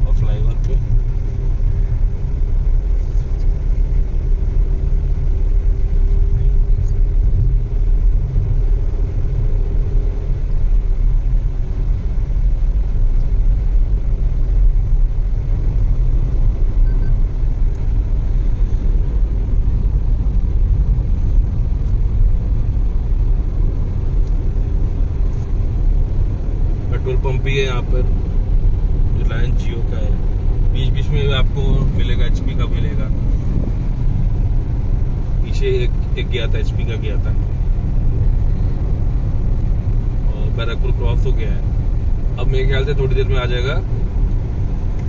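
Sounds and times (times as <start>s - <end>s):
tyres and engine rumbling: 0.0s - 45.0s.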